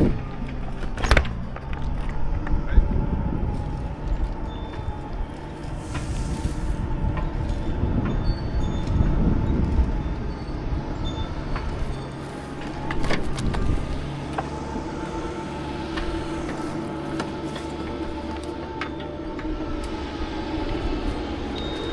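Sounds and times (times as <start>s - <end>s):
heavy engine running: 0.0s - 21.9s.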